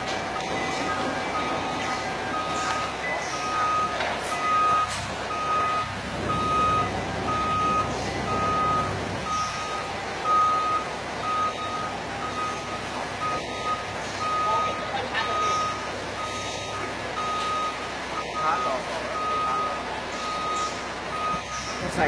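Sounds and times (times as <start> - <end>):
warning beeper beeping: 0.0 - 21.7
machine background noise: 0.0 - 22.0.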